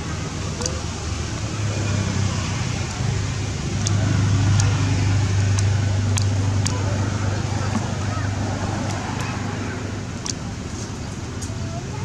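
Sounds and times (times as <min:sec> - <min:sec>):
low motor hum: 0:00.0 - 0:12.0
faint clicks: 0:00.6 - 0:12.0.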